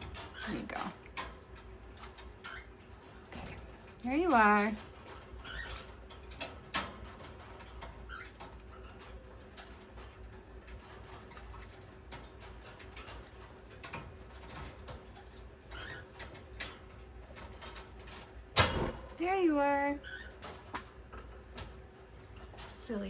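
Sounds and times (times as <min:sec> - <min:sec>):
parrots clicking on cage bars: 0:00.0 - 0:23.0.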